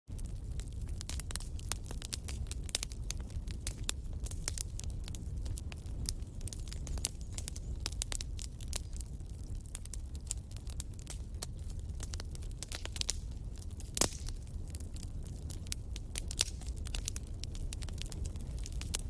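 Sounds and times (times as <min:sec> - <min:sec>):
campfire crackling and popping: 0:00.1 - 0:19.0
low rumble of flames: 0:00.1 - 0:19.0.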